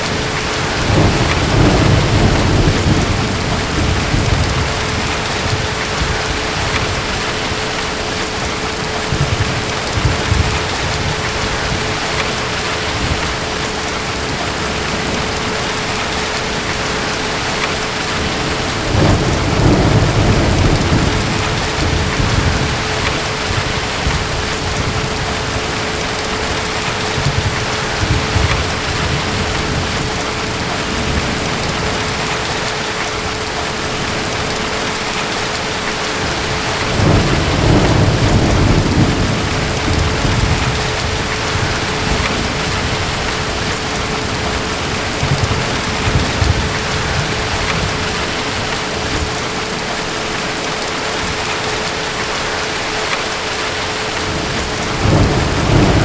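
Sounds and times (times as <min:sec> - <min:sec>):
distant thunder rumbles: 0:00.0 - 0:50.4, 0:54.1 - 0:56.0
heavy rain: 0:00.0 - 0:56.0.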